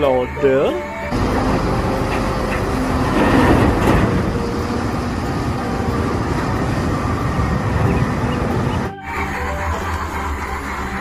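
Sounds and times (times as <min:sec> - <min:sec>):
diesel engine under load: 0:00.0 - 0:11.0.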